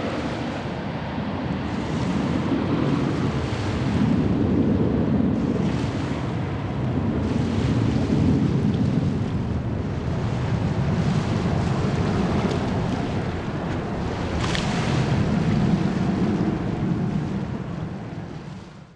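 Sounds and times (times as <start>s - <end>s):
jet engines rumbling: 0.0s - 18.9s
wind buffeting microphone: 0.0s - 18.9s.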